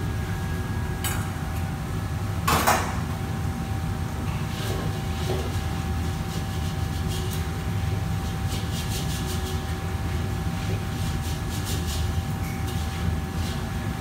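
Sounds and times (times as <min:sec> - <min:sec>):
gas burner and extractor roar: 0:00.0 - 0:14.0.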